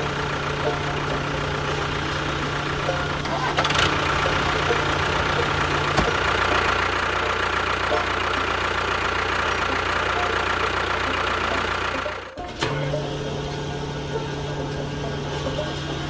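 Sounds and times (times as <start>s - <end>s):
engine running: 0.0s - 16.0s
low hum: 0.0s - 16.0s.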